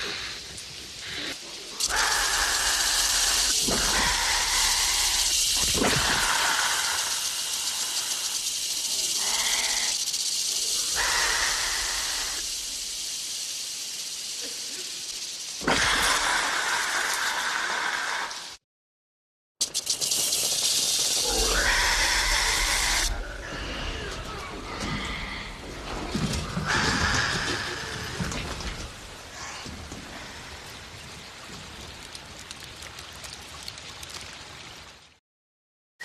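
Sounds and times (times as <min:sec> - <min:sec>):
creature breathy hiss: 0:00.0 - 0:18.6, 0:19.8 - 0:31.3.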